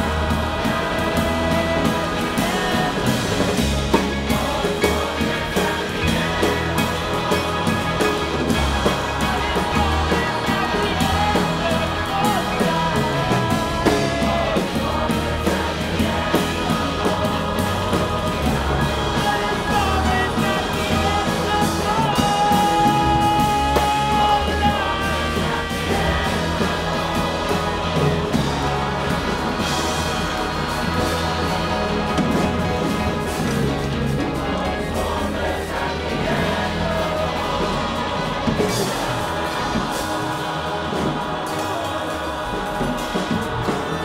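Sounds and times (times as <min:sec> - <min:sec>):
cellos: 0:00.0 - 0:44.0
choir singing sustained chords: 0:00.0 - 0:44.0
drums: 0:00.0 - 0:44.0
electric guitar: 0:00.0 - 0:44.0.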